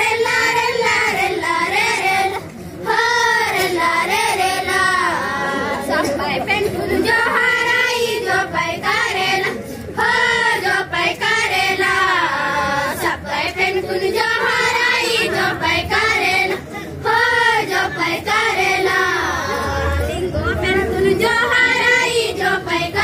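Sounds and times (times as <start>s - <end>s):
girls singing together: 0.0s - 23.0s.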